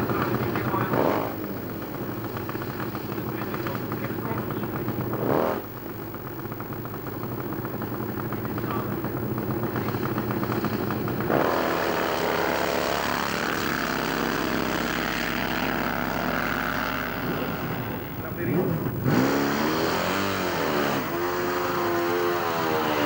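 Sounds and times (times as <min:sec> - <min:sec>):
motorcycle engines revving and accelerating: 0:00.0 - 0:05.8, 0:07.0 - 0:23.0.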